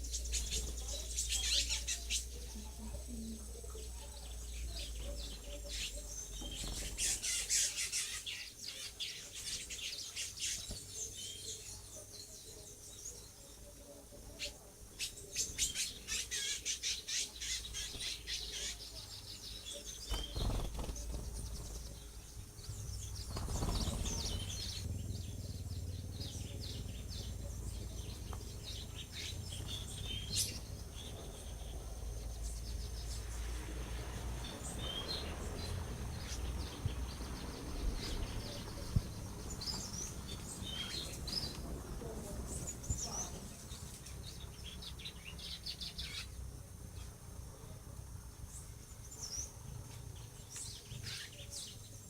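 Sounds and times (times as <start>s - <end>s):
birds chirping and calling: 0.0s - 52.0s.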